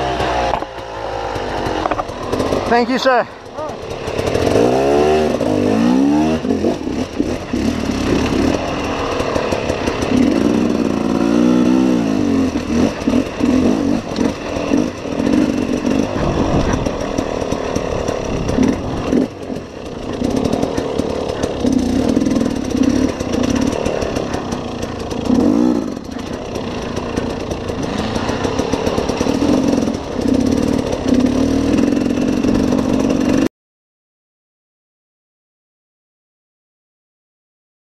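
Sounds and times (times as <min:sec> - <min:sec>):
motorcycle engine revving: 0:00.0 - 0:33.5.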